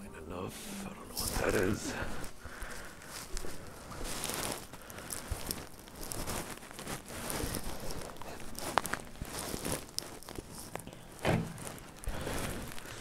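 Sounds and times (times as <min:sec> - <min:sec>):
rustling handling noise: 0:00.6 - 0:13.0.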